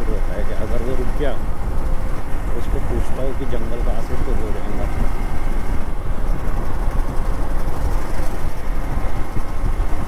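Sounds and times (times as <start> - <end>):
motorcycle engine running: 0.0 - 10.0
riding noise rumble: 0.0 - 10.0.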